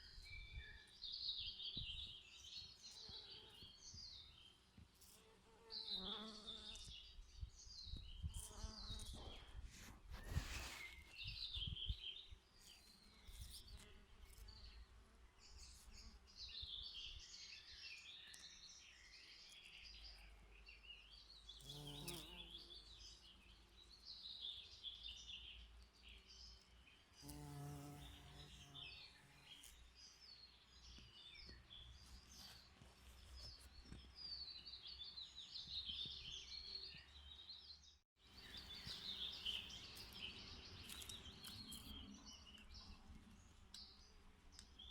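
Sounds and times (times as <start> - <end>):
songbirds twittering: 5.7 - 44.9.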